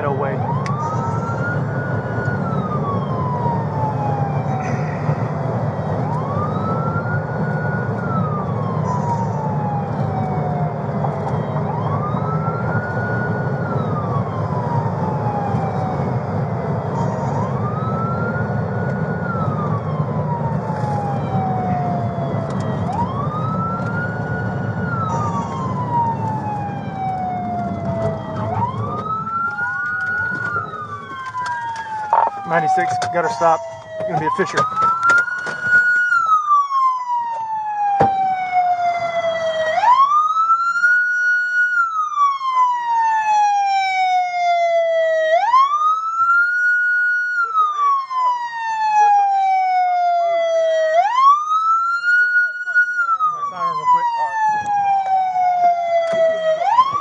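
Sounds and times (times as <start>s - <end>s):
engine and road noise: 0.0s - 57.0s
police siren wailing: 0.0s - 57.0s
second siren: 0.0s - 57.0s.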